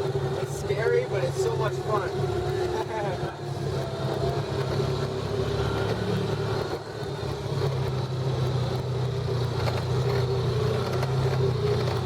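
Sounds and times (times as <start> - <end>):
off-road vehicle engine running: 0.0 - 12.0
road and wind noise: 0.0 - 12.0.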